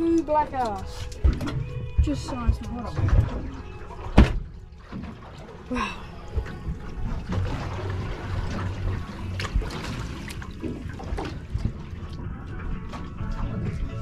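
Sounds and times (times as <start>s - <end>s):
water splashing against boat hull: 0.0s - 14.0s.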